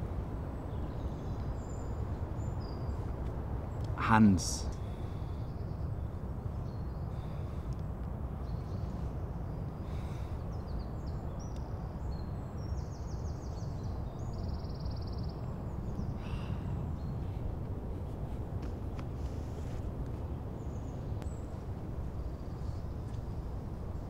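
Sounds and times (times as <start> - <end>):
outdoor background rumble: 0.0 - 24.0
songbirds calling: 0.0 - 24.0.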